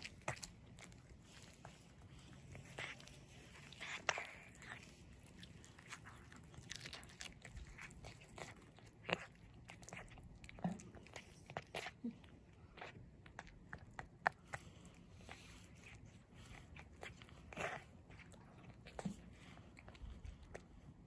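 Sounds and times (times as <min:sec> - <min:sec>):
cat chewing raw fish: 0:00.0 - 0:21.0.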